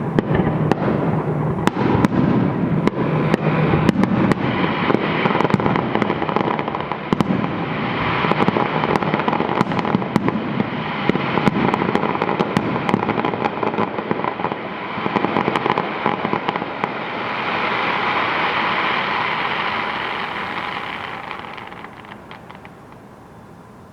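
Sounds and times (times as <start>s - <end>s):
fireworks cracking and popping: 0.0s - 23.9s
fireworks crackling: 0.0s - 23.9s.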